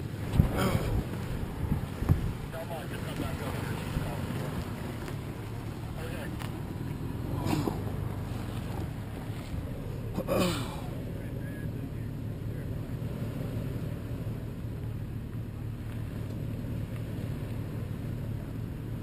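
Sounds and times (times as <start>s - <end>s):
car engine at low revs: 0.0s - 19.0s.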